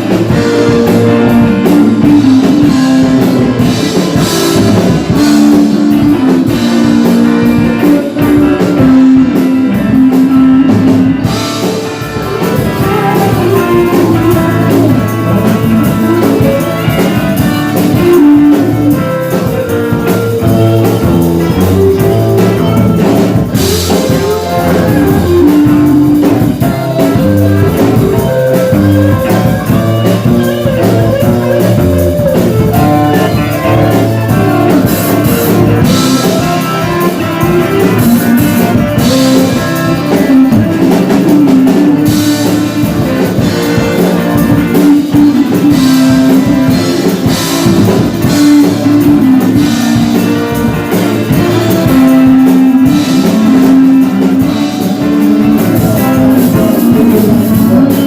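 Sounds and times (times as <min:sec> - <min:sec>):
rock blues band playing: 0:00.0 - 0:58.0.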